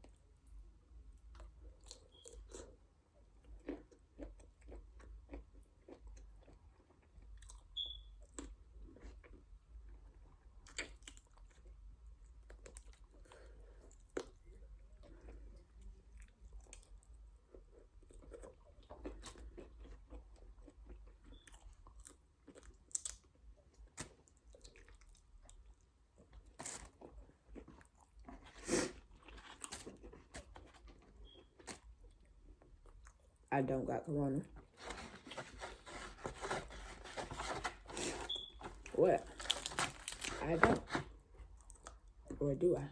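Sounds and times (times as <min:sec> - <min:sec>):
person chewing crunchy food: 0:01.2 - 0:33.4, 0:34.5 - 0:40.6.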